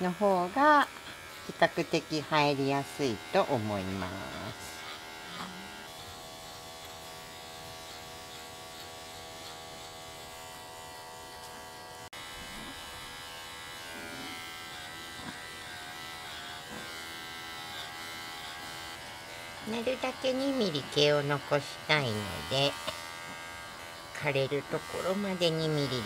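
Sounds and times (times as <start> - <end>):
electric clippers buzzing: 0.0 - 26.0.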